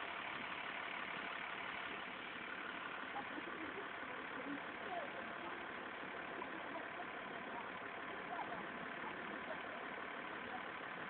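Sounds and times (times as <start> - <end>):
background traffic noise: 0.0 - 11.0.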